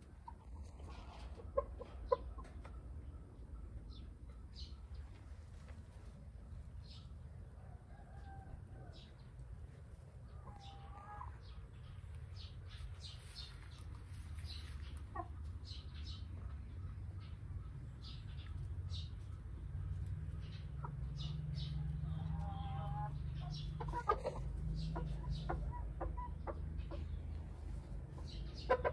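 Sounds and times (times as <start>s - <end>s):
hens clucking: 0.0s - 28.9s.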